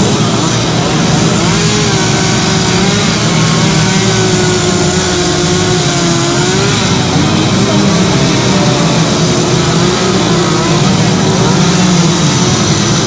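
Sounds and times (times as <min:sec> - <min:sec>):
chainsaws carving wood: 0:00.0 - 0:13.0.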